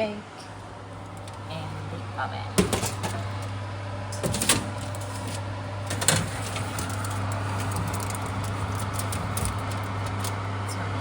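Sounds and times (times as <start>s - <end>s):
oven humming: 0.0s - 11.0s.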